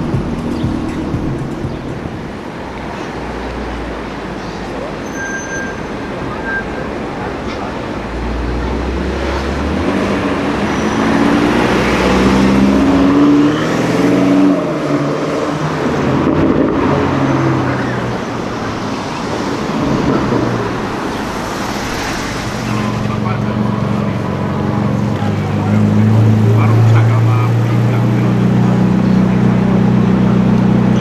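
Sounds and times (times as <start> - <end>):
car engine accelerating: 0.0 - 31.0
street traffic: 0.0 - 31.0.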